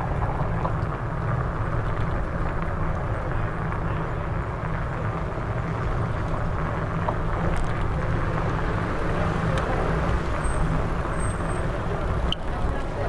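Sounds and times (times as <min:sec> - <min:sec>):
city street noise: 0:00.0 - 0:13.0
low rumble from moving bicycle: 0:00.0 - 0:13.0.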